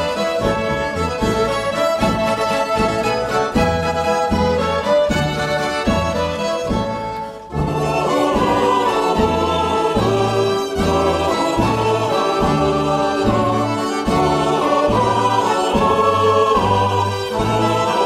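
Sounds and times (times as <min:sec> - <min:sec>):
instrumental music with bass pulse: 0:00.0 - 0:18.0.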